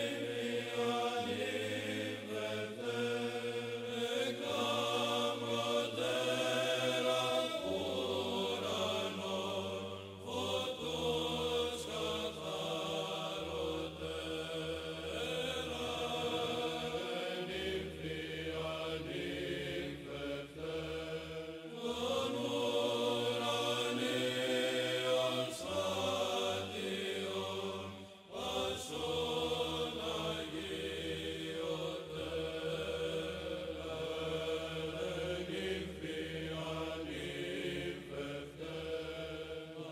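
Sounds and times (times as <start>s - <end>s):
slow chanting voices: 0.0s - 39.9s.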